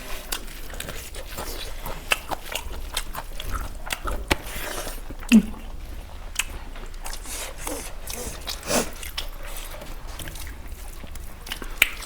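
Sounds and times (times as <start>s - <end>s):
person chewing and crunching: 0.0s - 12.0s.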